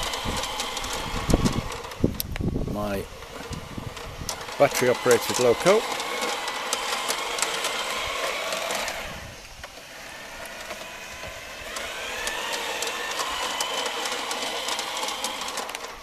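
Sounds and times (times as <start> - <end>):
model locomotive motor whining: 0.0 - 16.0.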